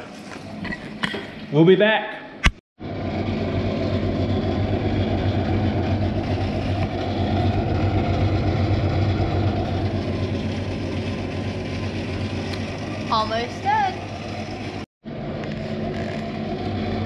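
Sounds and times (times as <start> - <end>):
oven droning hum: 2.8 - 17.0.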